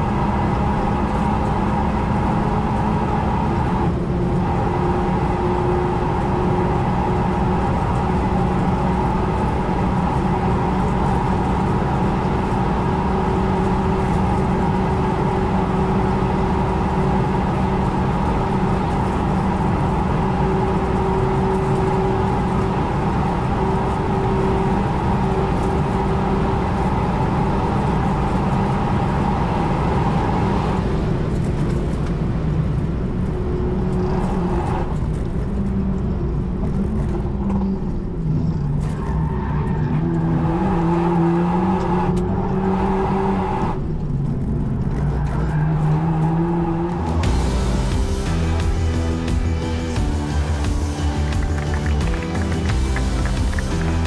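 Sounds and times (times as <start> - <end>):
car engine at full throttle: 0.0 - 54.0
wind and tyre noise: 0.0 - 54.0.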